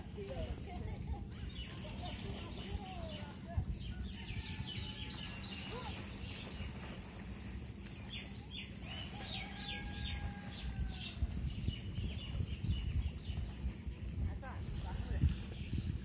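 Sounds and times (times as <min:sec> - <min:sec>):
steady low rumble: 0:00.0 - 0:16.0
birds chirping: 0:00.2 - 0:14.0.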